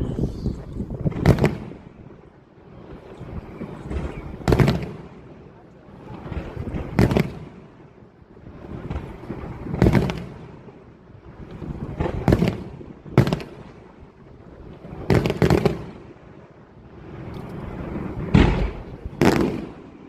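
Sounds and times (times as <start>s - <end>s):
fireworks bursting with echo: 0.0s - 2.2s, 2.8s - 16.3s, 16.9s - 20.0s.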